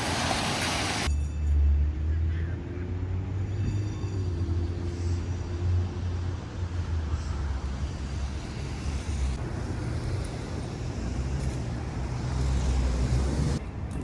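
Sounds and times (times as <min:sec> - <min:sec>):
rumble of passing cars: 0:00.0 - 0:14.0.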